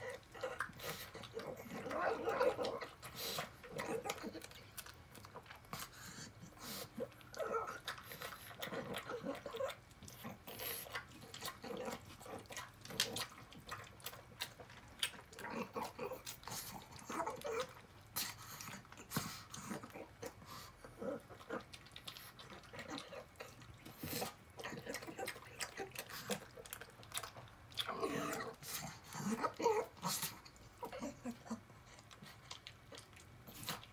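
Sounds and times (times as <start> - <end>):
dog eating wet smacking: 0.0 - 33.9.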